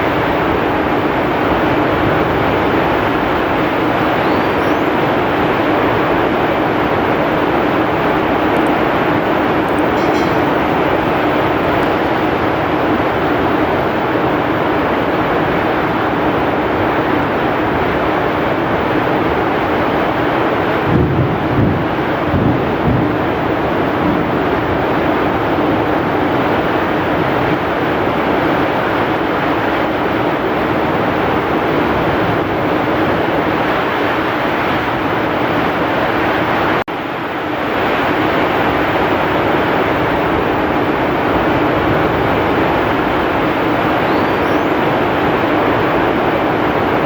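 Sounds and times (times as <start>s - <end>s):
strong wind: 0.0s - 47.0s.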